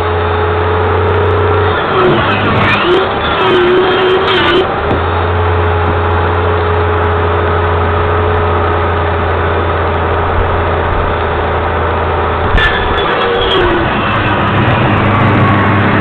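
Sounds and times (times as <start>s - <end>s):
low mechanical drone: 0.0s - 16.0s.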